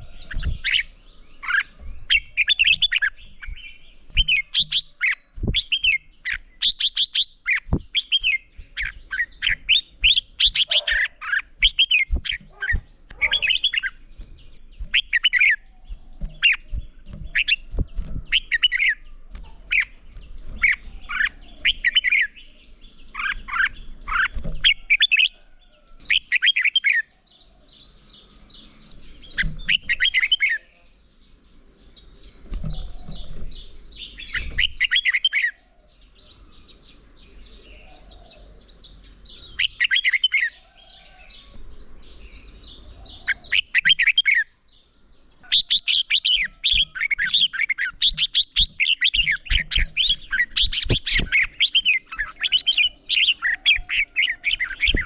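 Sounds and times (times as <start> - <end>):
birds singing whistled phrases: 0.0 - 55.0.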